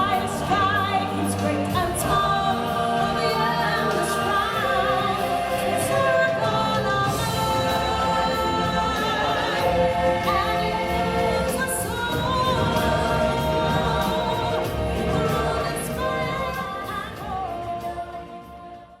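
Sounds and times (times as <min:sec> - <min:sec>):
choir singing held notes: 0:00.0 - 0:19.0.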